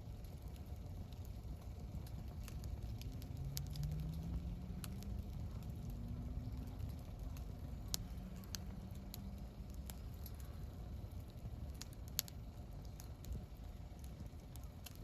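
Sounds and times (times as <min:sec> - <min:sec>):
campfire crackling and popping: 0:00.0 - 0:15.0
low steady rumble: 0:00.0 - 0:15.0.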